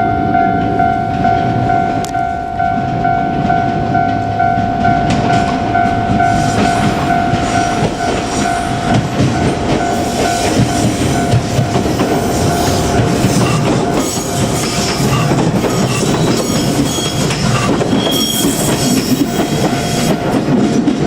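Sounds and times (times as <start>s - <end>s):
electric train rumbling: 0.0s - 21.0s
level-crossing warning bell: 0.0s - 21.0s
train wheels clattering on rail joints: 0.6s - 21.0s.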